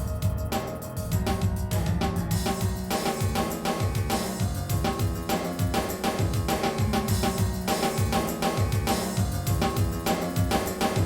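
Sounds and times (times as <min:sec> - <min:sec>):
music with steady drum beat: 0:00.0 - 0:11.0.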